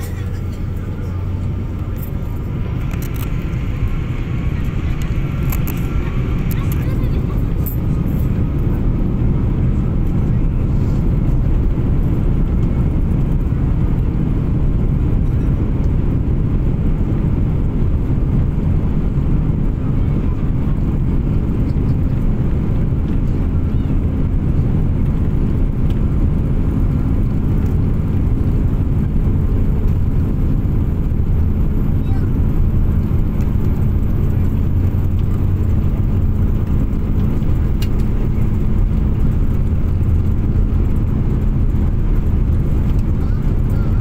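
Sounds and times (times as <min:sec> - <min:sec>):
jet engines at takeoff: 0:00.0 - 0:44.0.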